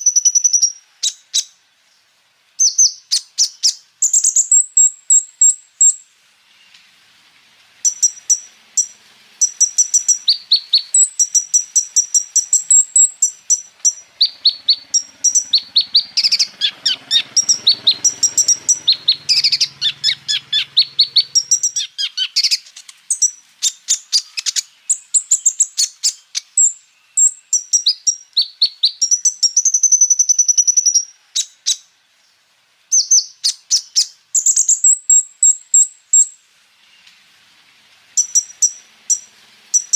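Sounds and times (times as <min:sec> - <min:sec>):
bird singing rapid chirps and trills: 0:00.0 - 0:01.6, 0:02.6 - 0:06.8, 0:07.8 - 0:31.9, 0:32.9 - 0:36.4, 0:38.2 - 0:39.9.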